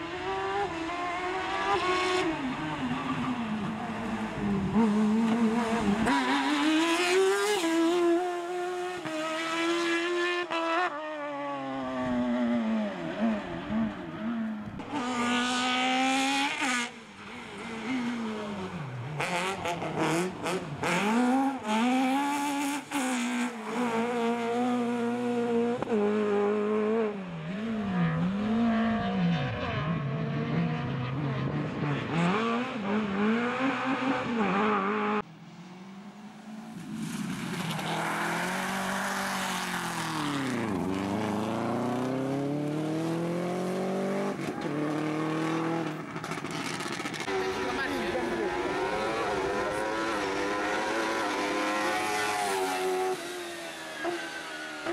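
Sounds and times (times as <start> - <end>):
rally car engine revving: 0.0 - 35.3, 36.8 - 54.9.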